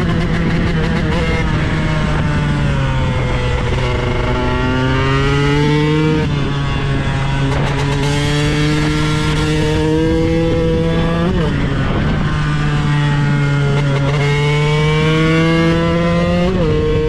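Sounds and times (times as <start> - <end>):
two-stroke motorcycle engine accelerating: 0.0 - 17.0.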